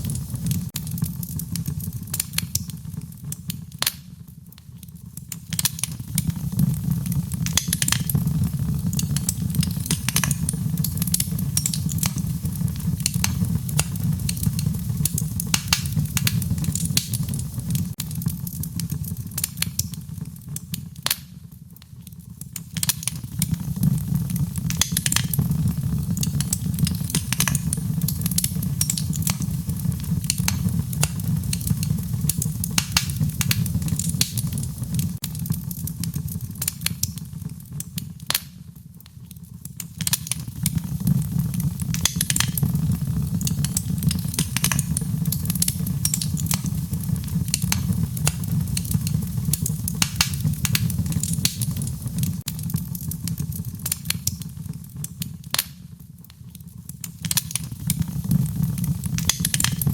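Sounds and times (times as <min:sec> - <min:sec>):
low rumble of flames: 0:00.0 - 0:59.9
sharp pops and snaps: 0:00.0 - 0:59.9
wood fire crackling: 0:00.0 - 0:59.9.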